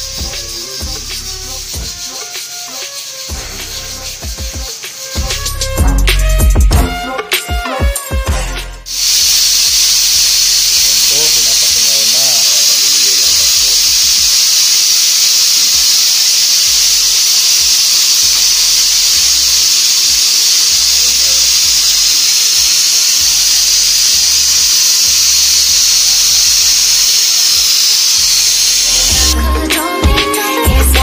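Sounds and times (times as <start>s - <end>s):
pressure cooker hissing steam: 0.0s - 6.2s, 8.9s - 31.0s.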